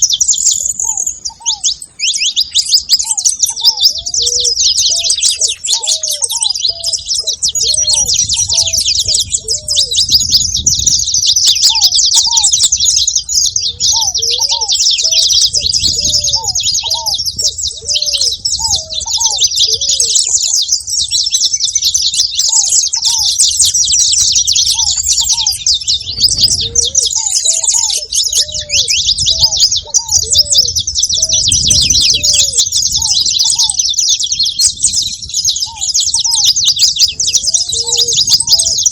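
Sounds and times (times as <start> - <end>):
finch chirping and trilling: 0.0 - 38.9
lower bird call notes: 0.0 - 38.9.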